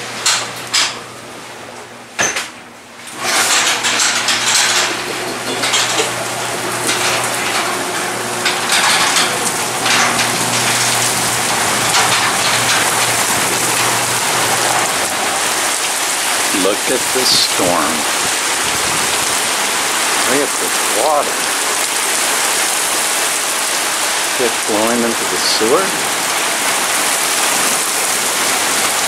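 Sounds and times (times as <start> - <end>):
heavy rain pouring: 3.1 - 29.0.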